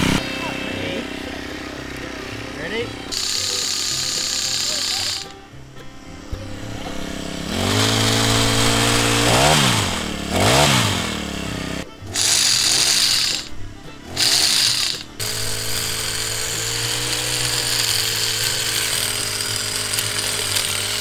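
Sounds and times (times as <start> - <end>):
hedge trimmer engine revving: 0.0 - 21.0.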